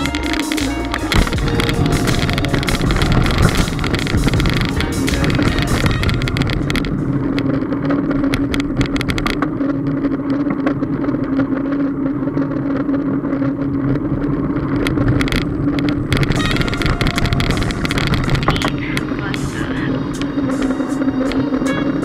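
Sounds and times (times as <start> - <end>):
bicycle ride hum: 0.0 - 22.0
wind rumble: 0.0 - 22.0.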